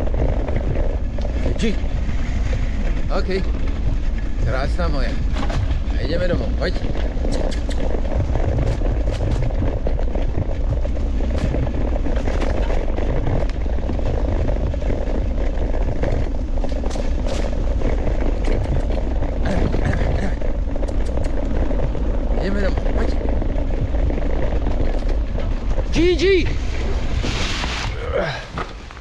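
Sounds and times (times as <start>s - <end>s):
scooter rolling on dirt trail: 0.0s - 29.0s.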